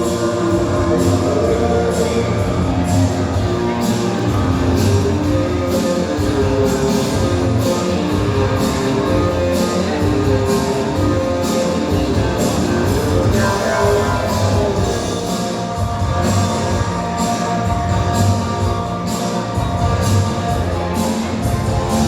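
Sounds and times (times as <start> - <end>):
rock music over sound system: 0.0 - 22.0.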